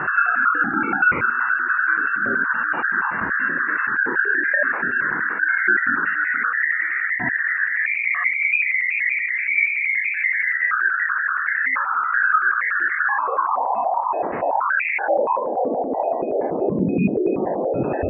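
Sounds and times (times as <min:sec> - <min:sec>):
warbling electronic whine: 0:00.0 - 0:18.0.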